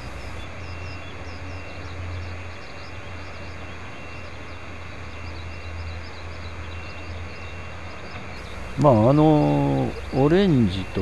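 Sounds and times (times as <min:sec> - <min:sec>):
distant electric train rumble: 0:00.0 - 0:11.0
small birds chirping: 0:00.0 - 0:11.0.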